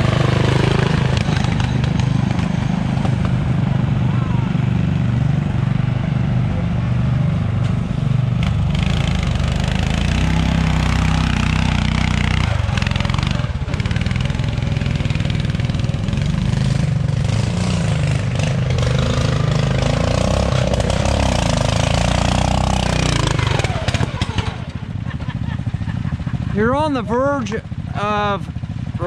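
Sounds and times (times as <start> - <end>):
small tractor engines revving: 0.0 - 29.0.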